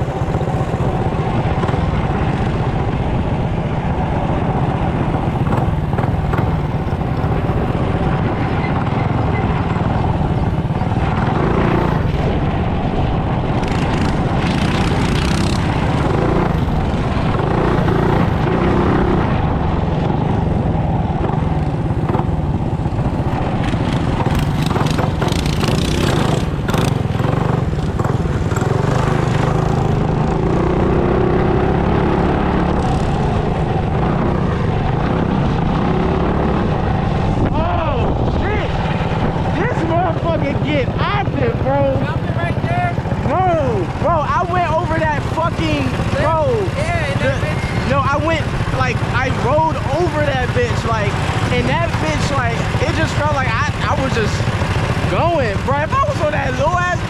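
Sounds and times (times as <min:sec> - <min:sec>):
small motorbike engine running: 0:00.0 - 0:37.9, 0:38.5 - 0:57.0.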